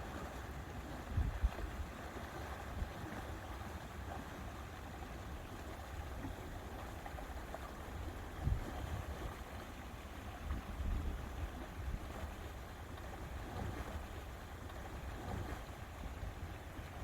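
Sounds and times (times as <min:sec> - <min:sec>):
lake water lapping: 0:00.0 - 0:17.0.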